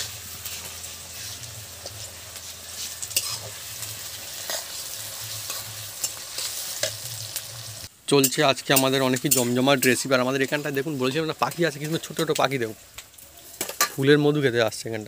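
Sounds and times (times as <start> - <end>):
onions sizzling in hot oil: 0.0 - 14.5.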